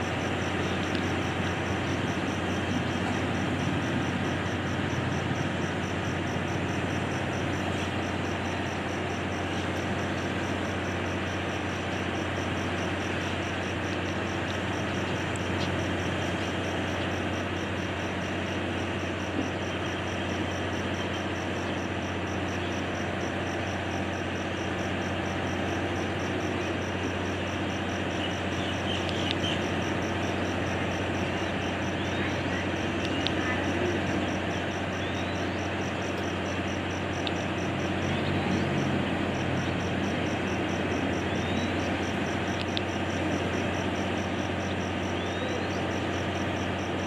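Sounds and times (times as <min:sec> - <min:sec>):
high rapid pulsing trill: 0:00.0 - 0:47.0
low engine hum: 0:00.0 - 0:47.0.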